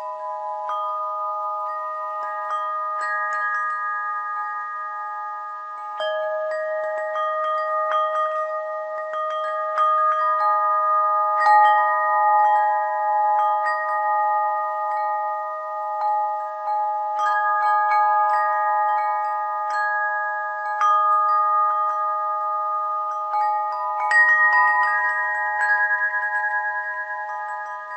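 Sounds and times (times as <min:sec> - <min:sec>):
bells chiming: 0:00.0 - 0:27.9.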